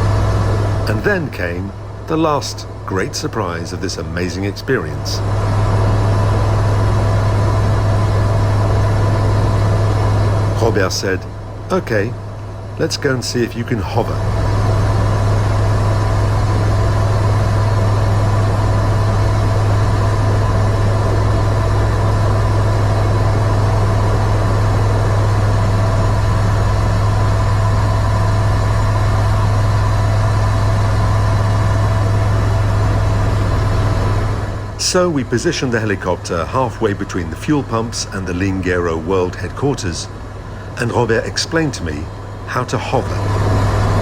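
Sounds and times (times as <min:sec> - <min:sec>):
faint steady whine: 0:00.0 - 0:44.0
helicopter drone in cockpit: 0:00.0 - 0:44.0.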